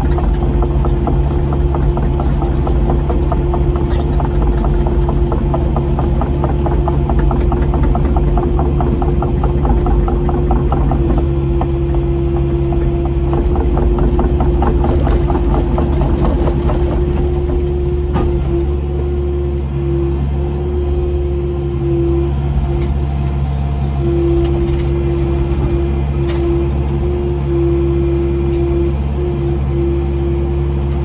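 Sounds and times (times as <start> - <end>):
excavator diesel engine running: 0.0 - 31.0
hydraulic whine: 0.0 - 31.0.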